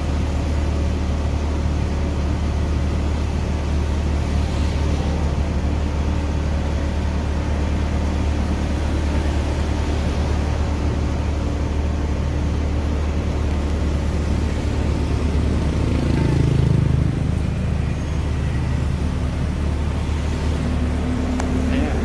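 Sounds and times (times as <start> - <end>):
fire truck engine droning: 0.0 - 22.0.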